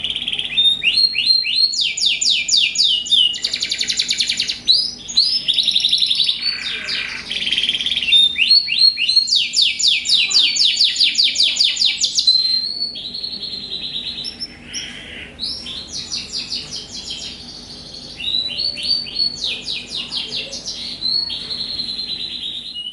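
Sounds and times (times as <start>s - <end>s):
canaries trilling: 0.0s - 22.9s.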